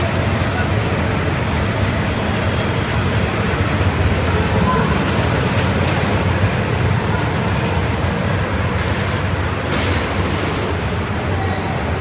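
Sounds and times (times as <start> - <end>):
go-kart engines droning: 0.0 - 12.0.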